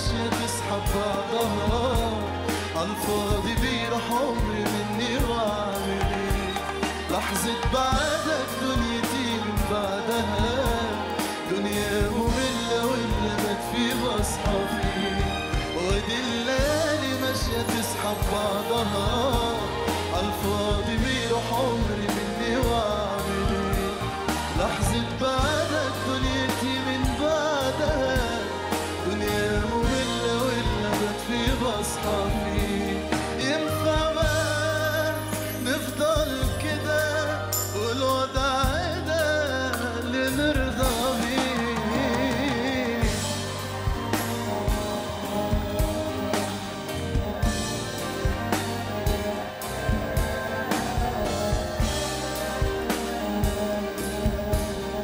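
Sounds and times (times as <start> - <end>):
live band playing: 0.0 - 55.0
man singing into a microphone: 0.0 - 55.0
steady drum beat: 0.0 - 55.0.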